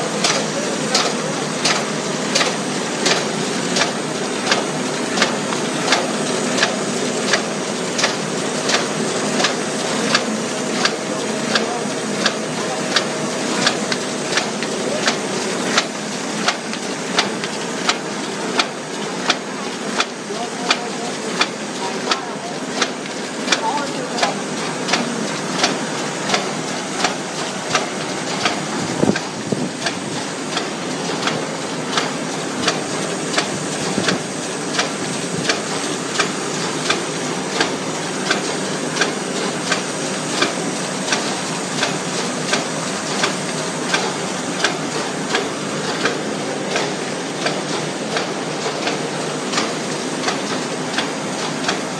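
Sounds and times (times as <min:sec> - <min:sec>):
machine mechanical clatter: 0:00.0 - 0:51.9.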